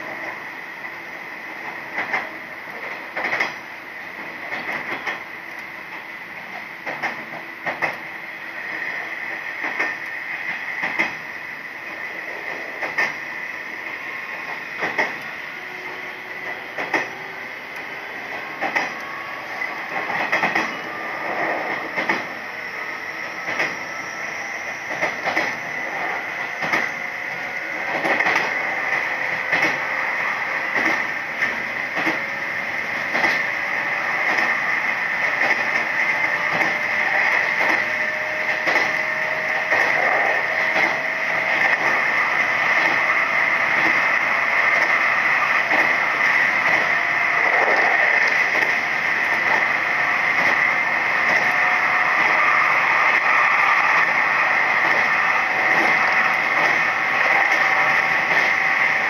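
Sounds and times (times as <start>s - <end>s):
electric train motor whine: 0.0s - 59.0s
train running noise: 0.0s - 59.0s.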